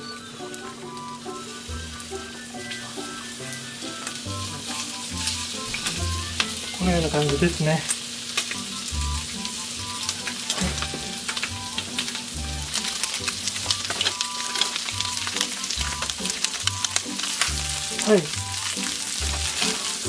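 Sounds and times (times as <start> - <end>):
chicken wings frying in a pan: 0.0 - 20.0.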